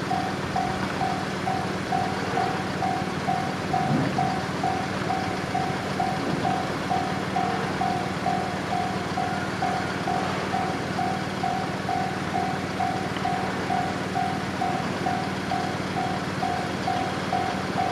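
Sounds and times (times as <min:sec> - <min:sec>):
level crossing warning bell: 0:00.0 - 0:17.9.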